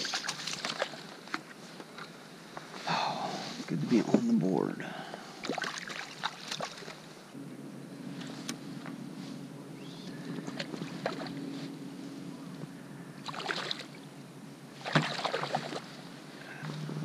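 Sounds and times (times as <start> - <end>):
steady low hum: 0.7 - 17.0.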